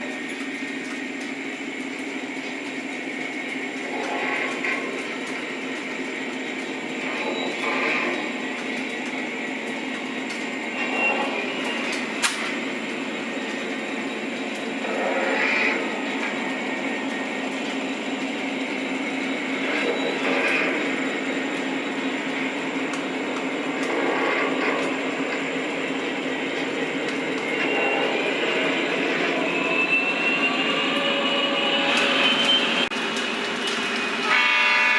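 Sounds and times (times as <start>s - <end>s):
model train wheels rumbling on track: 0.0s - 34.9s.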